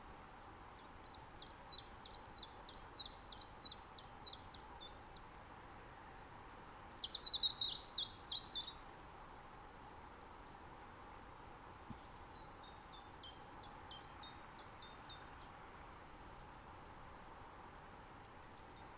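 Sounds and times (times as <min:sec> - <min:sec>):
faint steady hiss: 0:00.0 - 0:18.9.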